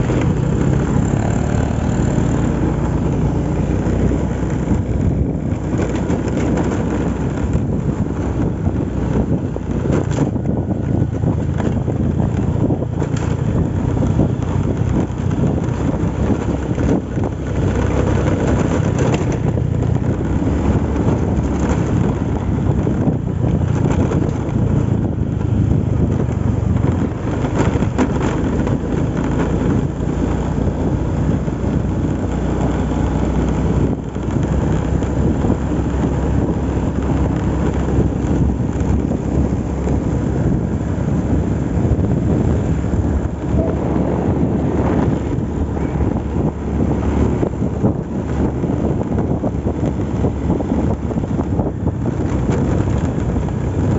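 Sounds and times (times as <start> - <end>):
low rumble: 0.0 - 53.9
wind buffeting microphone: 0.0 - 53.9.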